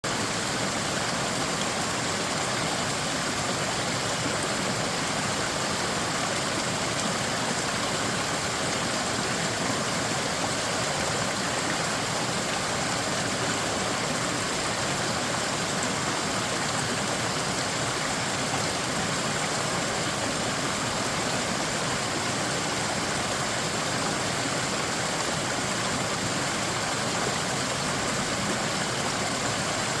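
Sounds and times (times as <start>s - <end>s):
flooded creek rushing: 0.0s - 30.0s.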